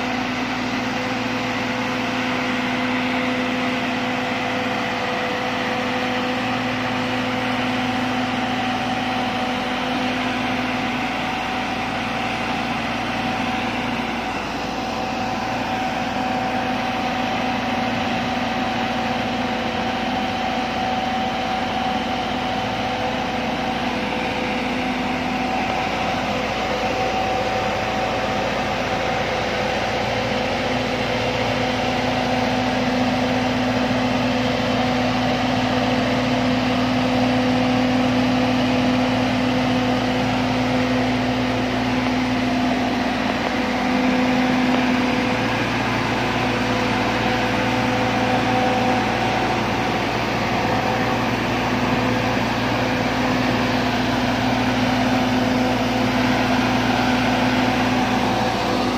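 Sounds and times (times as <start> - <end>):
travel lift engine droning: 0.0 - 58.9.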